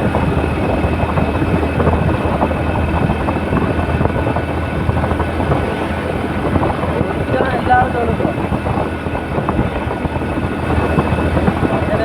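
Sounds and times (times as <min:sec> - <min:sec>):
vehicle running noise: 0:00.0 - 0:12.0.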